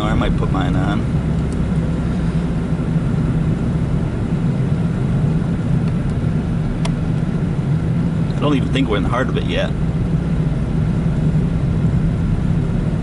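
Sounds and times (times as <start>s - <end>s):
car engine and tyres drone: 0.0s - 13.0s.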